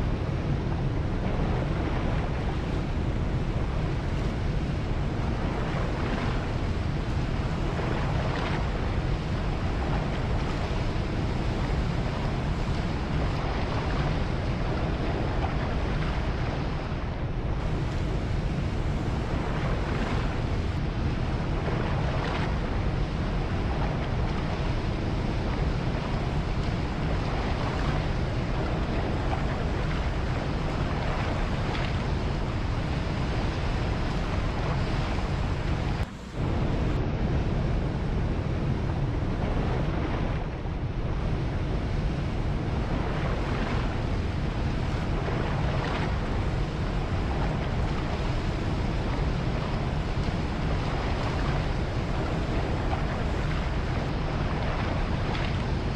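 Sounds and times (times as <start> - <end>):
ocean surf: 0.0 - 55.9
wind: 0.0 - 55.9.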